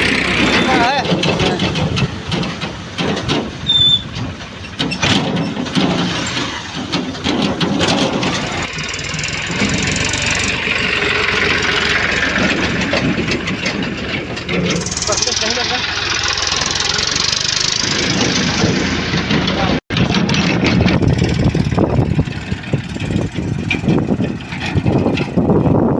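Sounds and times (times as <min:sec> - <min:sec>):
diesel machinery engine running: 0:00.0 - 0:25.9
engine knocking and clatter: 0:00.0 - 0:25.9.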